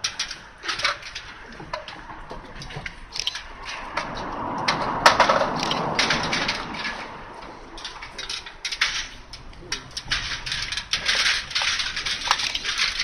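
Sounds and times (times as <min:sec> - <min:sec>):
metal stepladder clanking: 0:00.0 - 0:13.0.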